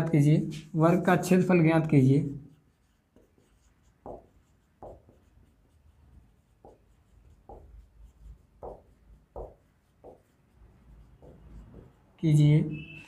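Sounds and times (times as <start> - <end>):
marker writing on whiteboard: 0.5 - 13.0.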